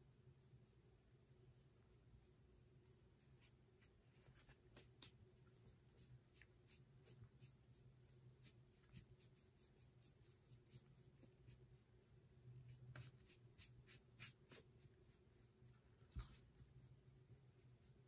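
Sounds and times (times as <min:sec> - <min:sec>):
low steady hum: 0:00.0 - 0:18.0
sponge brush dabbing on metal tray: 0:00.5 - 0:18.0.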